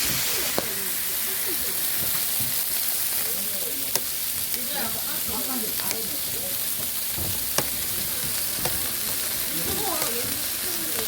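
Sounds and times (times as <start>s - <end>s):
food sizzling on iron griddle: 0.0s - 11.0s.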